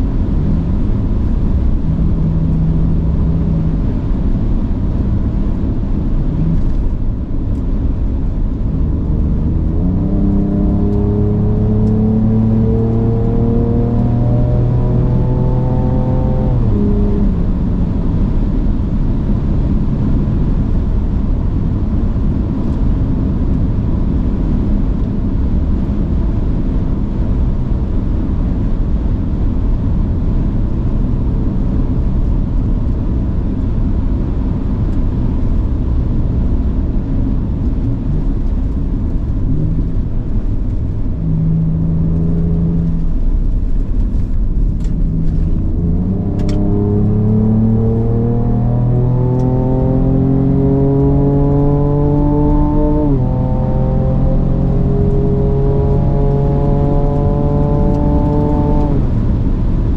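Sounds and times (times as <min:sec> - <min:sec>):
rumble of moving truck: 0:00.0 - 0:59.9.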